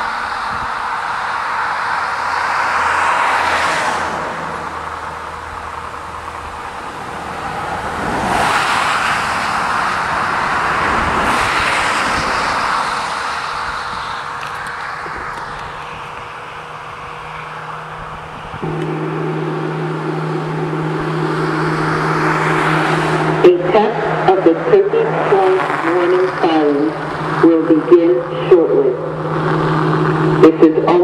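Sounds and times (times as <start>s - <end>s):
cars passing by: 0.0s - 31.0s.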